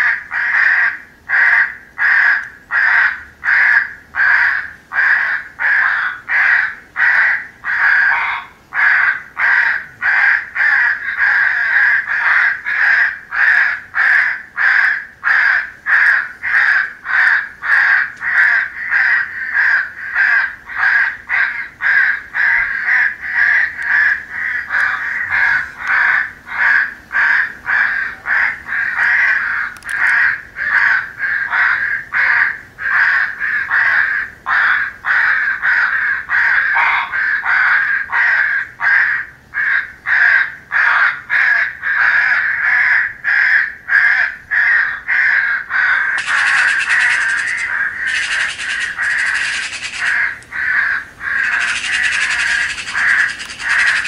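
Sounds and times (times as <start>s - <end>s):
crows cawing: 0.0s - 54.0s.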